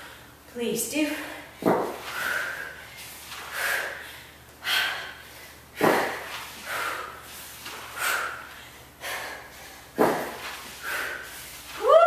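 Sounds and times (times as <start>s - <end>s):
woman breathing hard: 1.1s - 11.7s.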